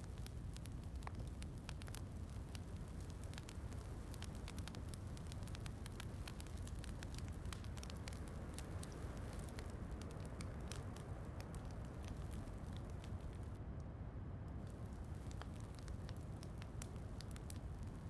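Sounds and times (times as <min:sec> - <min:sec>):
fireplace crackling: 0:00.0 - 0:13.6, 0:14.6 - 0:18.0
soft rain: 0:00.0 - 0:13.6, 0:14.5 - 0:18.0.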